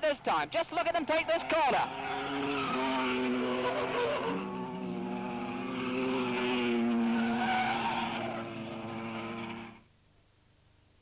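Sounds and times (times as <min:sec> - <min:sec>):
racing car engines: 0:00.0 - 0:09.9.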